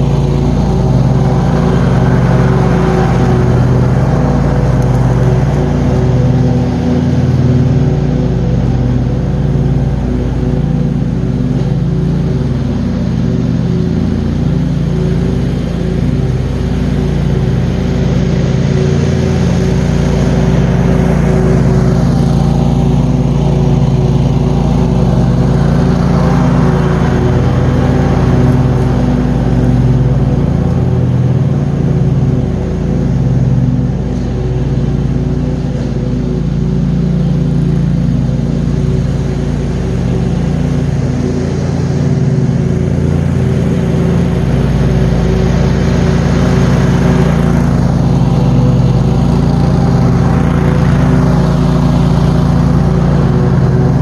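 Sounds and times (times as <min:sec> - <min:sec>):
mower engine hum: 0:00.0 - 0:54.0.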